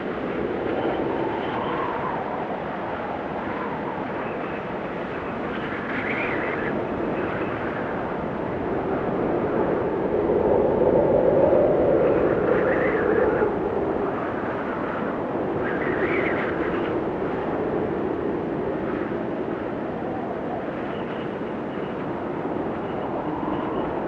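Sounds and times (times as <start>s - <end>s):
gusty snowstorm wind: 0.0s - 24.0s
high-pitched wind whistles: 0.0s - 24.0s.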